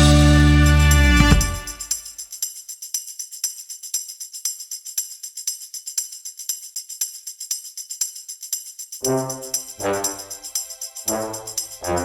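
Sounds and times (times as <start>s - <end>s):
tambourine jingle: 0.0s - 12.0s.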